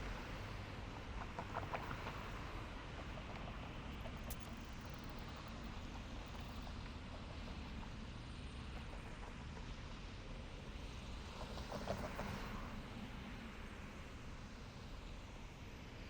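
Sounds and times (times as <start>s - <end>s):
low rumble of traffic: 0.0s - 16.0s.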